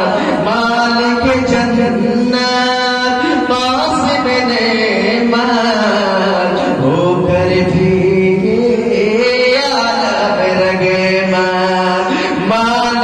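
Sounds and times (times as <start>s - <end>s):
man chanting into microphone: 0.0s - 13.0s.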